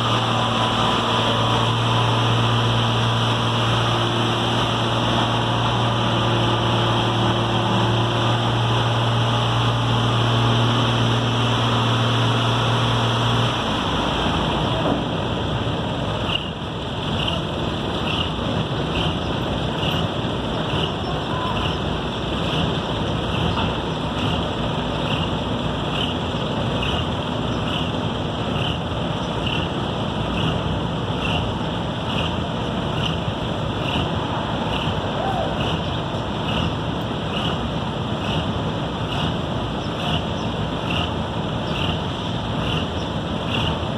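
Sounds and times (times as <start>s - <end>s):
heavy machinery engine rumble: 0.0s - 43.9s.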